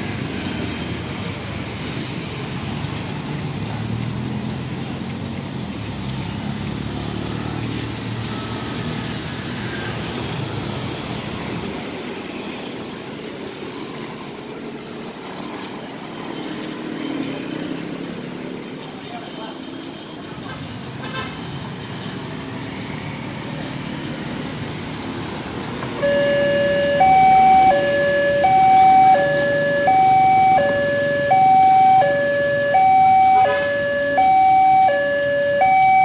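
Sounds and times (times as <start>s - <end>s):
cars and motorbikes driving past: 0.0s - 36.0s.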